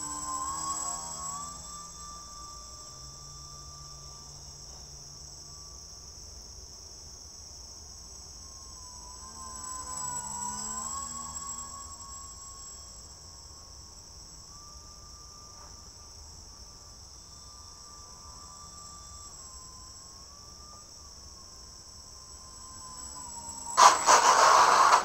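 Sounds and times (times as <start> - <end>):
faint whine: 0.0 - 25.0
high-pitched insect chorus: 0.0 - 25.0.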